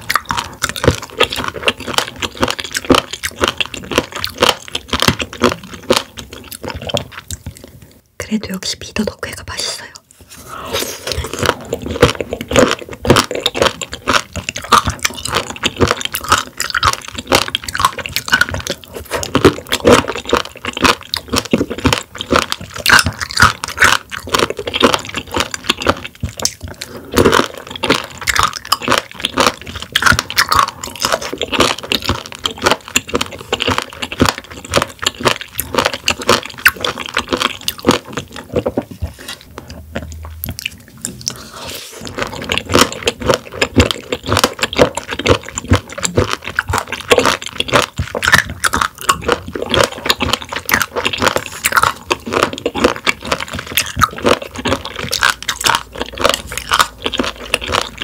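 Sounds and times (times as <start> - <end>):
close chewing with mouth clicks: 0.0 - 8.2, 9.0 - 58.0.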